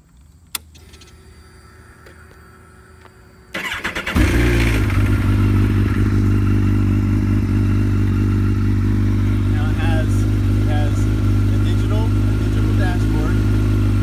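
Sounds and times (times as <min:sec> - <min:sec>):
faint ignition hum: 0:00.0 - 0:14.0
motorcycle engine starting and idling: 0:00.0 - 0:14.0.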